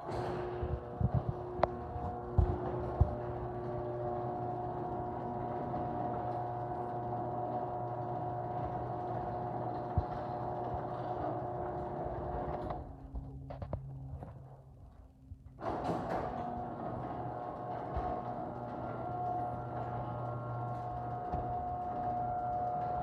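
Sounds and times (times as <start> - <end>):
garage door opener humming: 0.0 - 23.0.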